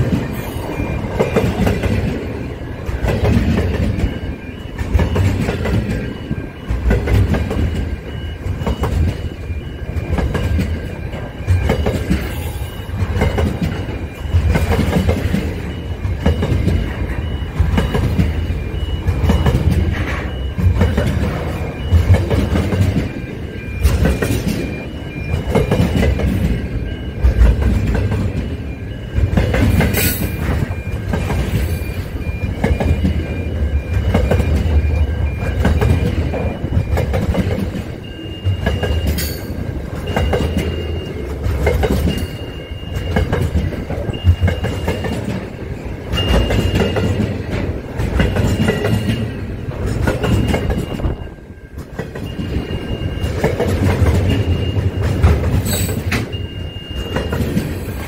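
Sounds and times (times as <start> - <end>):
low train rumble: 0.0 - 58.0
train wheels clattering on rails: 0.0 - 58.0.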